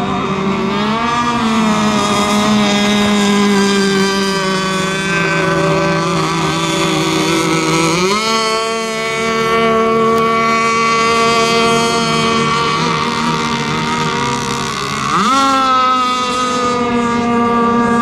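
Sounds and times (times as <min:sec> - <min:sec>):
small boat engines whining: 0:00.0 - 0:18.0.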